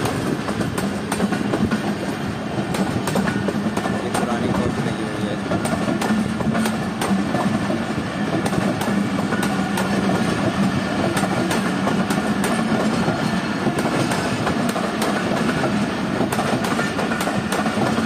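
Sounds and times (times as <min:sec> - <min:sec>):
train wheels clickety-clack: 0:00.0 - 0:18.0.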